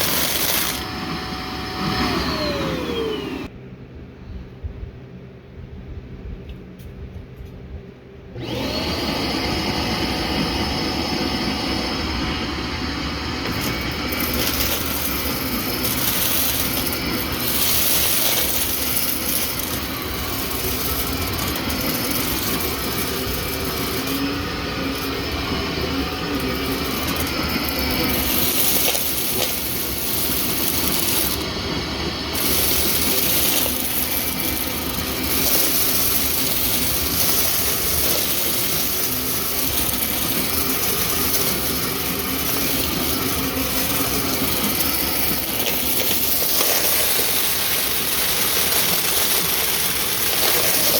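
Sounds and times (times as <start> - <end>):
vacuum cleaner running: 0.0 - 3.6, 8.4 - 50.9.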